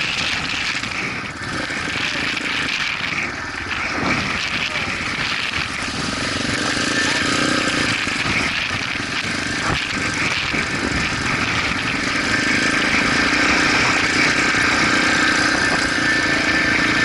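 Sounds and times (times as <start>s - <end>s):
high whine: 0.0s - 17.0s
motorcycle engine running: 0.0s - 17.0s.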